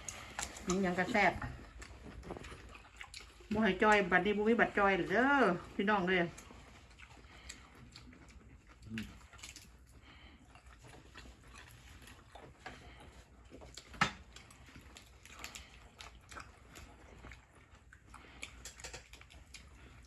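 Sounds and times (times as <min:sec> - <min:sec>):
chewing and smacking: 0:00.0 - 0:20.0.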